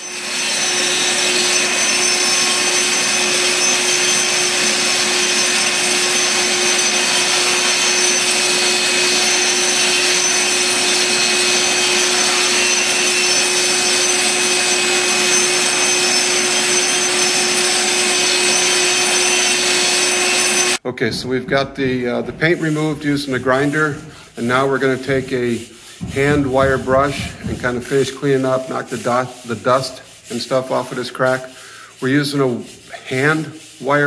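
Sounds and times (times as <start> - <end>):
angle grinder grinding concrete: 0.0 - 20.8, 21.8 - 34.0.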